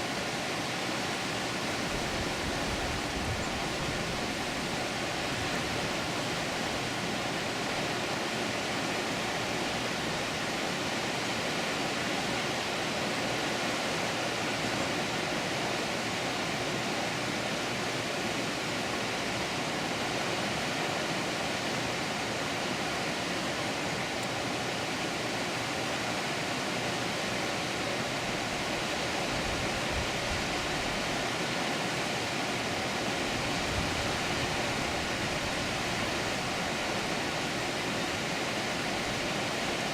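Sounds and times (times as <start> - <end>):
water flowing at a dam: 0.0 - 39.9.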